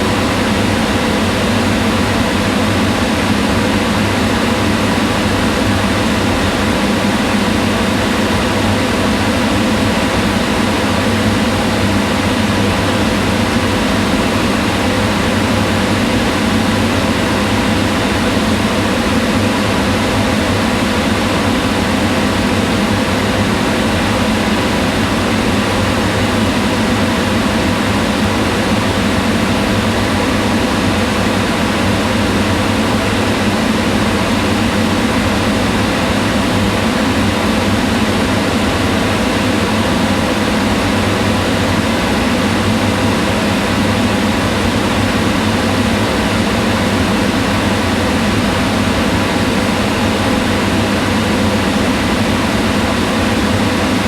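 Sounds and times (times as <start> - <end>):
range hood fan running: 0.0 - 54.0.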